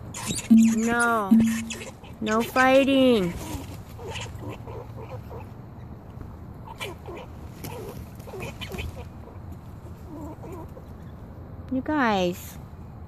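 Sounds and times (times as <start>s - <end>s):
squirrel squeaky calls: 0.0s - 6.0s, 6.6s - 11.2s.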